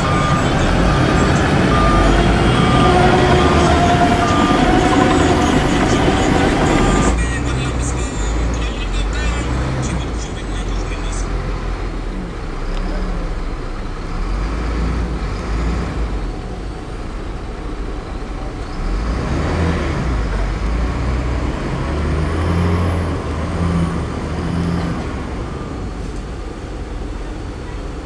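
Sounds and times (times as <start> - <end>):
heavy diesel engines rumbling: 0.0 - 28.0.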